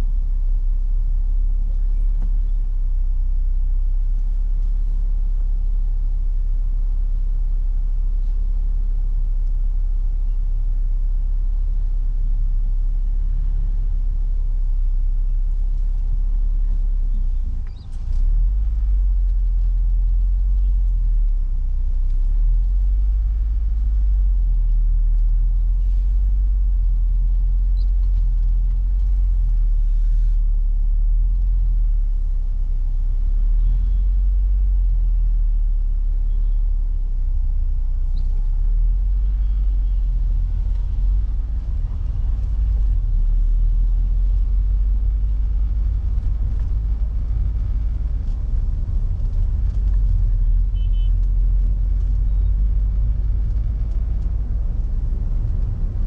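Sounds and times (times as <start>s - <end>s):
car engine and road noise rumble: 0.0s - 56.0s.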